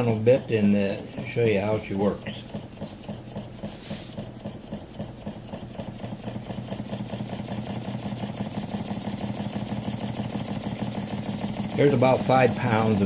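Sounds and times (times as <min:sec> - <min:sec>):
model steam engine exhaust puffs: 0:00.0 - 0:13.0.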